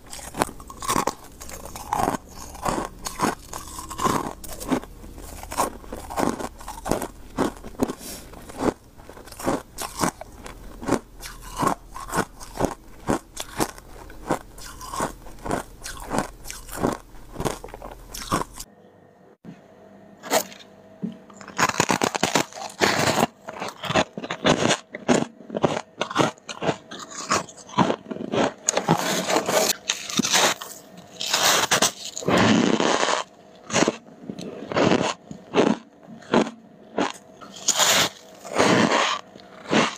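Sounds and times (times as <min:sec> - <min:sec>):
frost being bitten and chewed: 0:00.0 - 0:18.7, 0:21.5 - 0:39.9.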